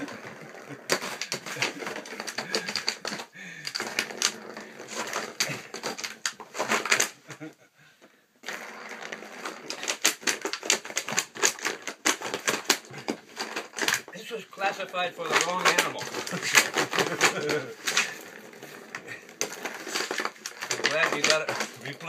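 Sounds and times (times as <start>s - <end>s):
claws clattering on plastic: 0.0s - 7.2s, 9.3s - 22.0s.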